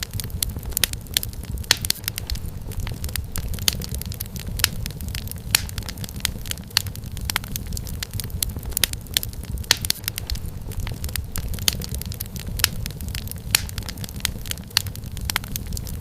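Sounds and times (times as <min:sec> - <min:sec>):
firewood popping and snapping: 0:00.0 - 0:16.0
low rumble of flames: 0:00.0 - 0:16.0.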